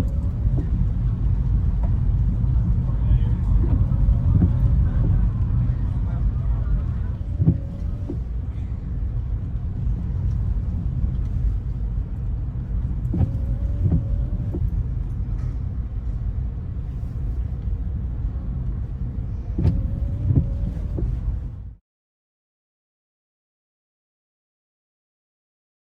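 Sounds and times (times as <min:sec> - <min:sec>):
windscreen wipers squeaking: 0:00.0 - 0:21.7
car road rumble: 0:00.0 - 0:21.8.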